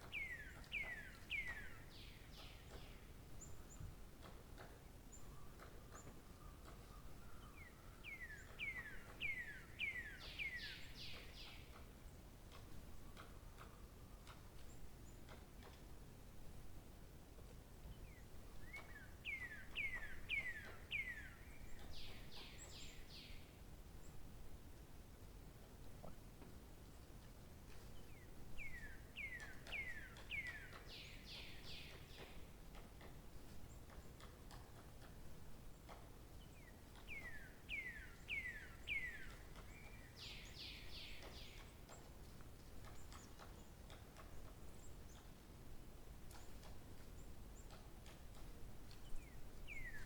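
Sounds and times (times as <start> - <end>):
low steady background noise: 0.0 - 50.0.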